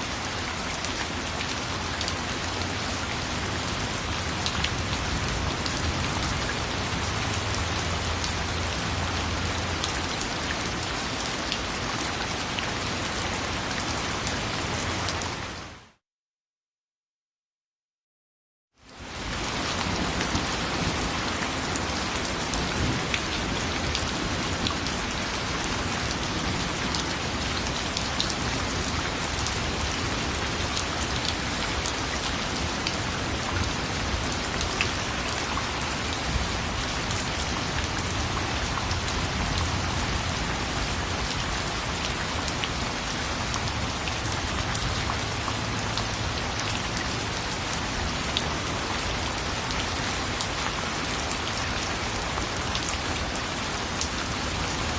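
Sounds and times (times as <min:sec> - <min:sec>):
rain falling on a surface: 0:00.0 - 0:16.0, 0:18.8 - 0:54.9.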